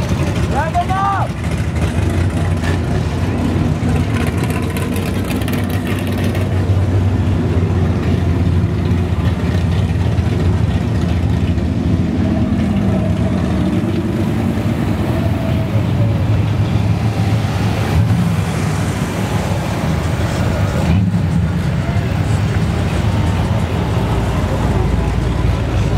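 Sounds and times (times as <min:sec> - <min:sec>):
car engines rumbling past: 0:00.0 - 0:25.9.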